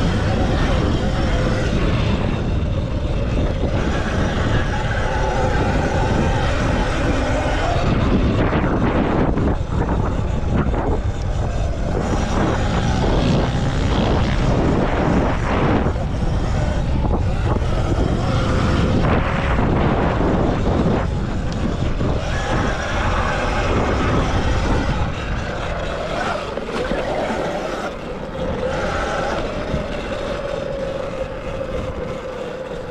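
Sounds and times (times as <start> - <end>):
electric motor whine: 0.0 - 32.9
tyre and dirt noise: 0.0 - 32.9
wind rumble on microphone: 0.0 - 32.9.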